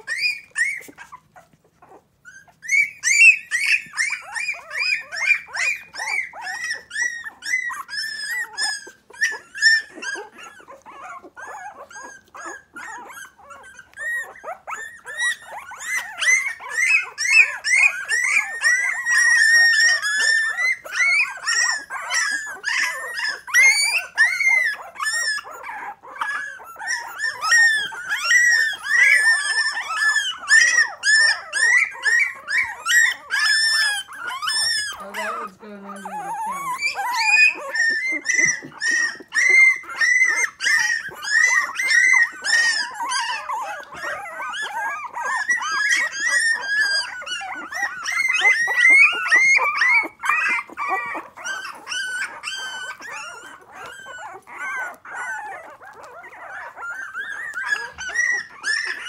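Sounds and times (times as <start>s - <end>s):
puppies whining and yipping: 0.0s - 59.0s.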